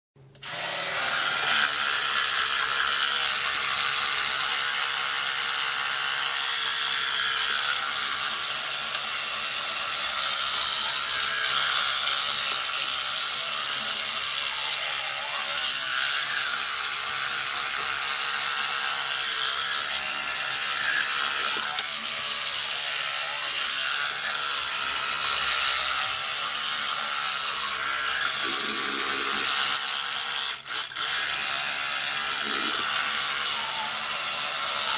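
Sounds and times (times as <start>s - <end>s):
electric toothbrush buzzing: 0.3s - 34.9s.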